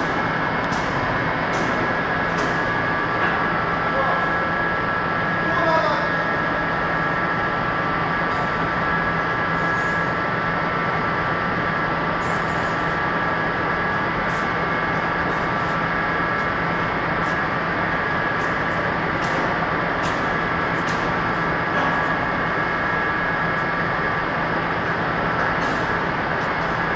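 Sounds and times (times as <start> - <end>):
heavy machinery running: 0.0 - 26.9.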